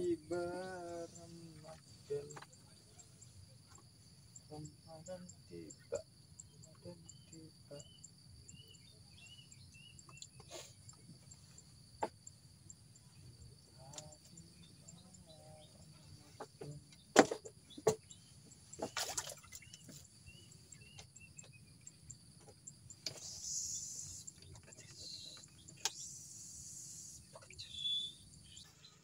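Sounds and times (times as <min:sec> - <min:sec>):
faint chirps: 0:00.0 - 0:29.0
high insect chorus: 0:00.0 - 0:29.0.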